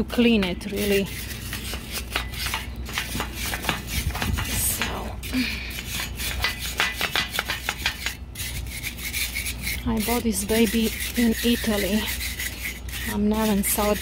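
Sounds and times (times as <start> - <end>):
metal tool scraping cast iron: 0.0 - 14.0.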